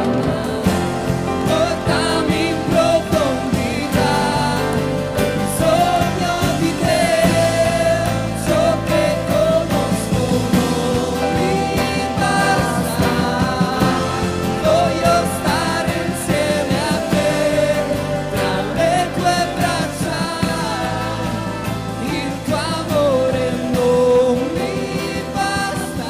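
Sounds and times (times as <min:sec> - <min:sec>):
guitars: 0:00.0 - 0:26.0
people singing into microphones: 0:00.0 - 0:26.0.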